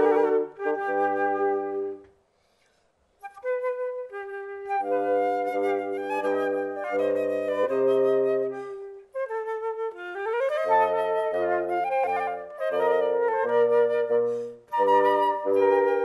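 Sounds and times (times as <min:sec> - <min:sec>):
flutes playing held notes: 0:00.0 - 0:02.1, 0:03.2 - 0:16.0.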